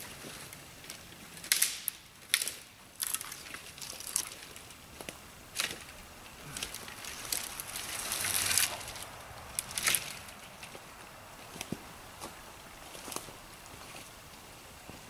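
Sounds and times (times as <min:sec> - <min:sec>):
branches snapping: 0:00.0 - 0:14.2
brush rustling: 0:00.0 - 0:15.0.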